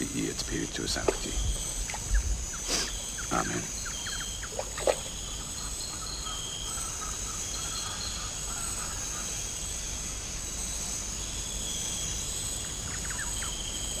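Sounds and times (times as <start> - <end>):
insects shrilling: 0.0 - 14.0.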